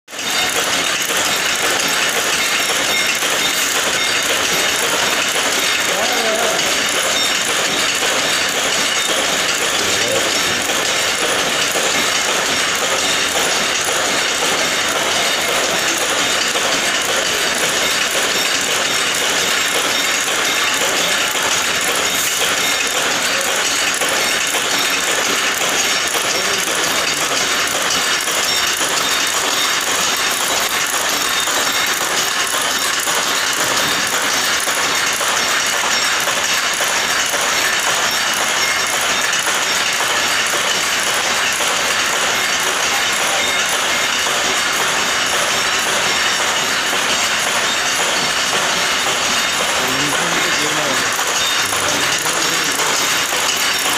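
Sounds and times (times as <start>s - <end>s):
wire machinery metallic clatter: 0.1s - 53.9s.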